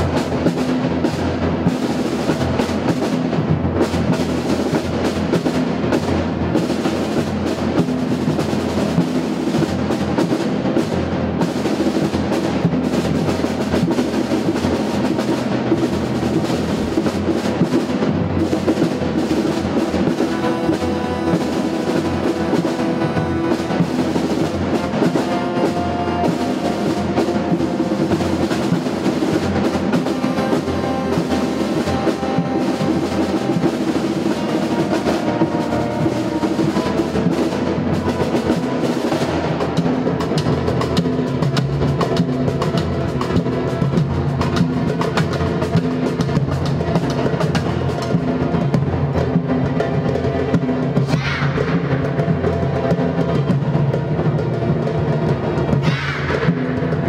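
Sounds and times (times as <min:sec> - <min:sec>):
orchestra holding notes: 0:00.0 - 0:57.0
rapid drum strikes: 0:00.0 - 0:57.0.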